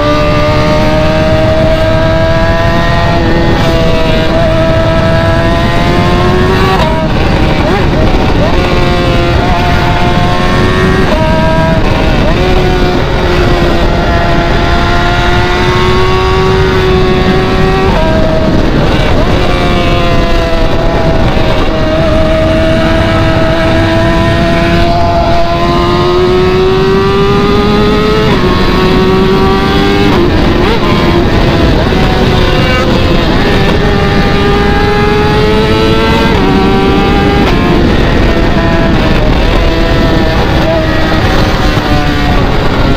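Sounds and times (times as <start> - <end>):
loud car exhaust rumble: 0.0 - 42.9.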